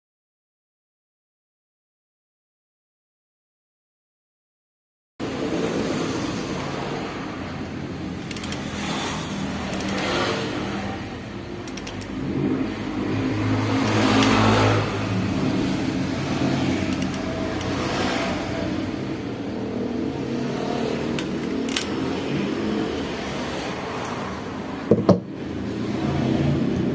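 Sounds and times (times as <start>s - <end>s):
two-stroke motorcycle engine revving: 5.2s - 26.9s.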